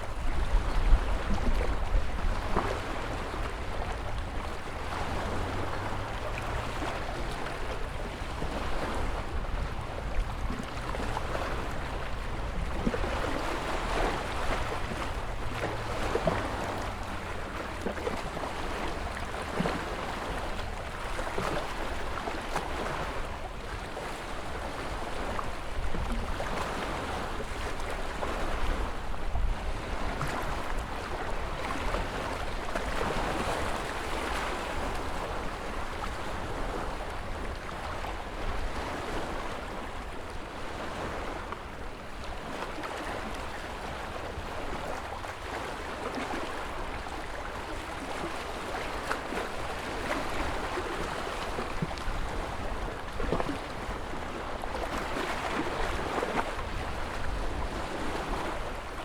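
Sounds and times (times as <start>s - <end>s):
ocean waves washing: 0.0s - 59.0s
water splashes and crackles: 0.0s - 59.0s.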